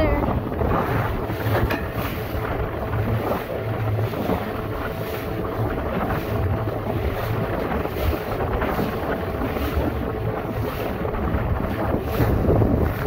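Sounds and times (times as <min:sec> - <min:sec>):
outboard motor running: 0:00.0 - 0:13.0
waves splashing against hull: 0:00.0 - 0:13.0
wind buffeting microphone: 0:00.0 - 0:13.0.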